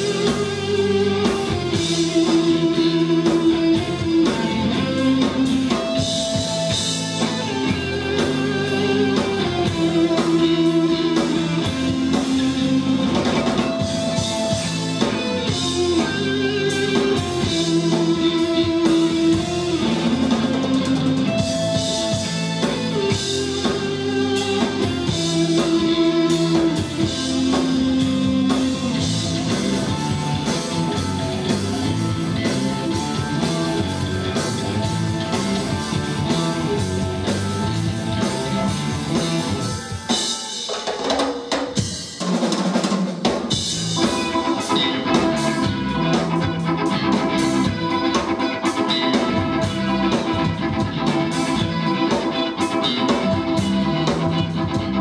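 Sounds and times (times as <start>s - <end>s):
bass guitar: 0.0s - 40.7s, 43.2s - 55.0s
drum kit beat: 0.0s - 55.0s
electric guitar: 0.0s - 55.0s.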